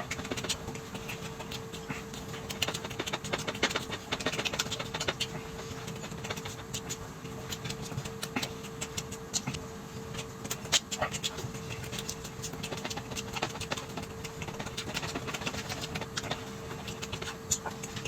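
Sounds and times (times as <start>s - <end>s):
chewing and mouth smacking: 0.0s - 18.0s.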